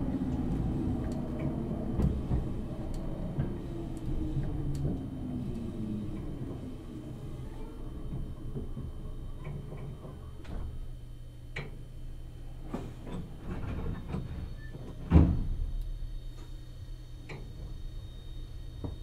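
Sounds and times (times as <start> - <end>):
low steady train cabin hum: 0.0 - 19.0.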